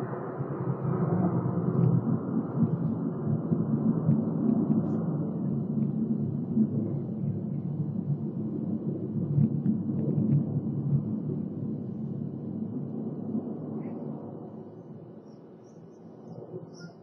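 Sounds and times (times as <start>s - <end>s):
jet aircraft rumble: 0.0s - 15.0s.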